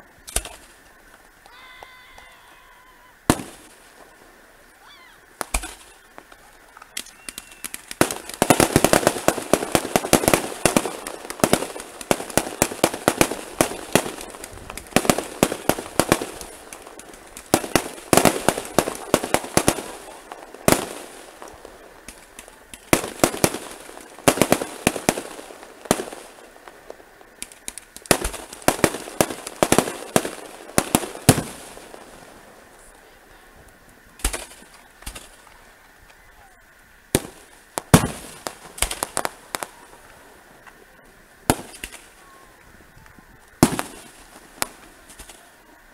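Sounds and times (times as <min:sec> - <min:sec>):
fireworks crackling pops: 0:00.0 - 0:45.9
firework bangs: 0:00.2 - 0:45.7.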